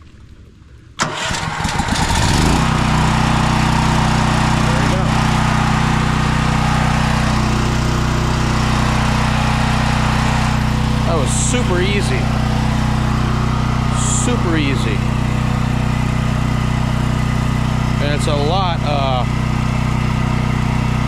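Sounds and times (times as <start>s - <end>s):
electric starter cranking: 1.0s - 21.0s
generator engine running: 1.0s - 21.0s.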